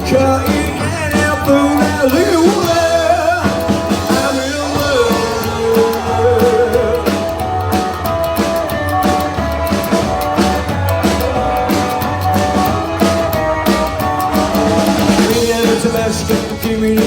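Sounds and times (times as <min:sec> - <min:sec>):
drums steady beat: 0:00.0 - 0:17.0
rockabilly band playing: 0:00.0 - 0:17.0.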